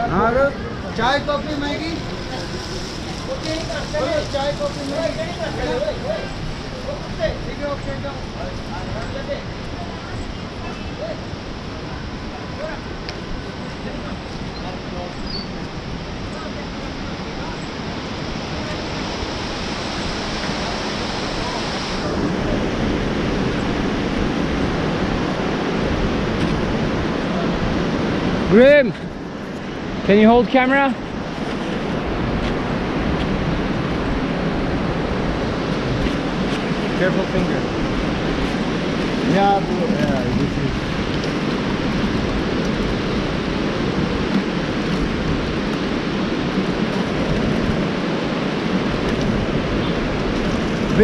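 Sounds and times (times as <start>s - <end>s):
river rushing over boulders: 0.0s - 51.0s.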